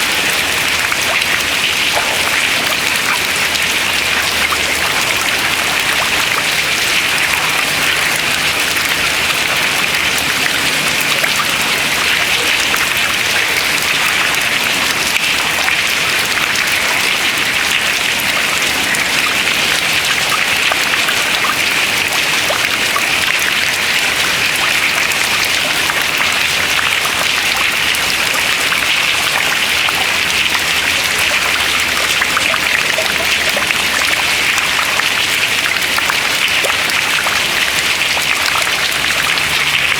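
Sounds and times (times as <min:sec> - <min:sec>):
water dripping into water: 0:00.0 - 0:39.9.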